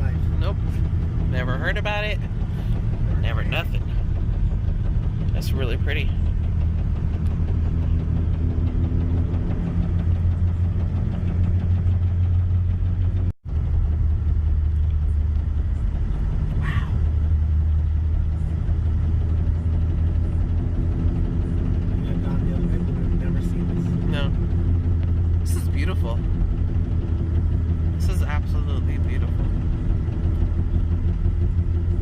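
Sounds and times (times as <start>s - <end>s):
car engine drone: 0.0s - 32.0s
road noise inside car: 0.0s - 32.0s.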